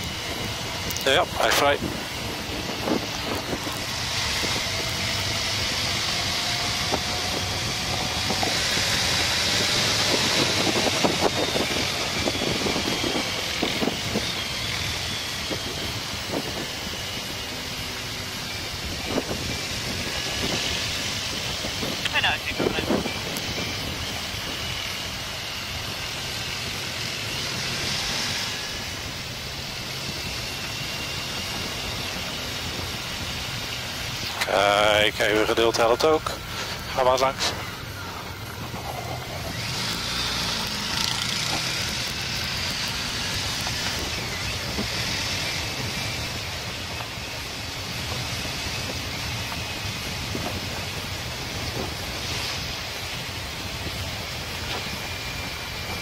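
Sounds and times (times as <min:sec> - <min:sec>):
motorcycle engine accelerating: 0:00.0 - 0:56.0
wind rushing over camera: 0:00.0 - 0:56.0.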